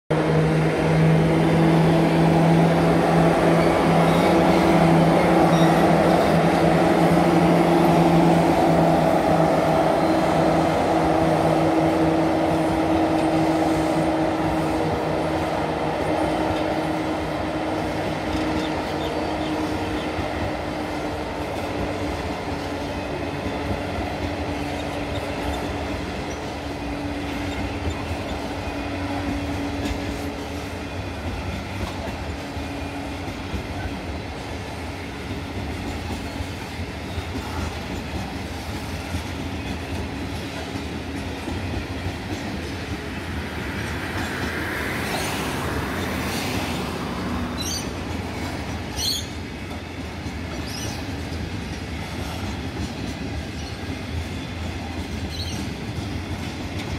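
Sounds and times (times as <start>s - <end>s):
diesel locomotive engines humming: 0.1s - 56.9s.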